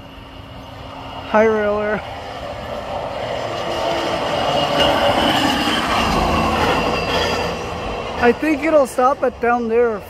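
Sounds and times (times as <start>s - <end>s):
train rolling on tracks: 0.0s - 10.0s
wheels squealing on rails: 0.0s - 10.0s.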